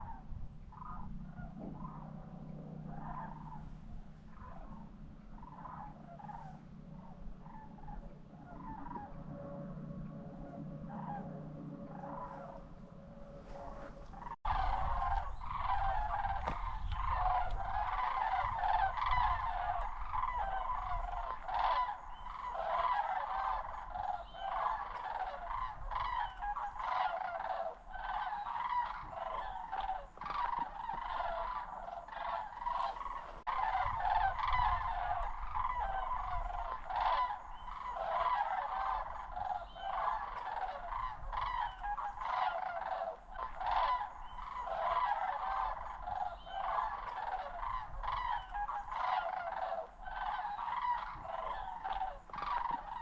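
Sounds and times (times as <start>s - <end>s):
cranes rattling calls: 0.0s - 53.0s.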